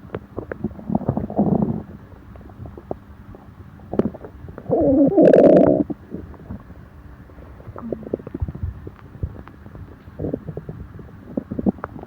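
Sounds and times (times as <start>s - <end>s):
stomach gurgling: 0.0s - 12.0s.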